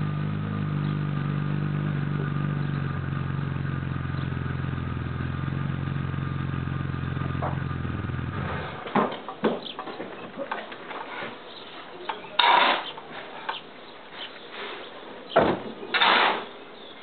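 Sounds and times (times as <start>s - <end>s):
car engine idling: 0.0s - 15.3s.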